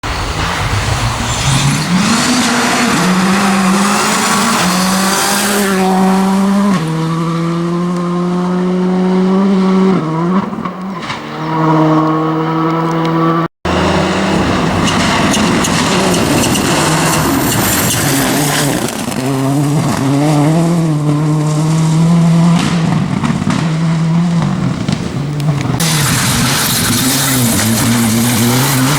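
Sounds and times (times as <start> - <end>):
rally car engine accelerating: 0.1 - 28.9.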